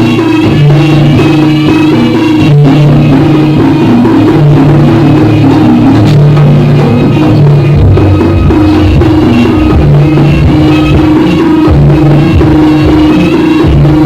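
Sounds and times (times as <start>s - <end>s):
live drum and melody music: 0.0s - 14.0s.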